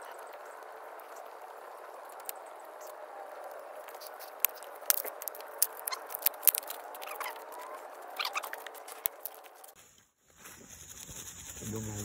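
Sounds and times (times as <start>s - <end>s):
campfire crackling and popping: 0.0s - 9.8s
fire hissing: 0.1s - 12.0s.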